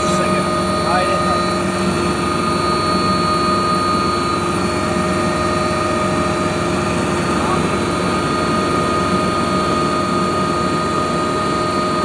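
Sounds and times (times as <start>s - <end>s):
constant whine: 0.0s - 12.0s
helicopter cabin drone: 0.0s - 12.0s.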